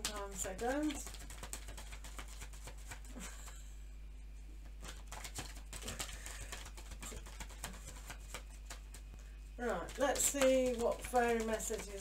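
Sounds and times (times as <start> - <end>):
cards being shuffled: 0.0 - 3.6, 4.8 - 9.1, 9.7 - 12.0
faint low electrical hum: 0.0 - 12.0.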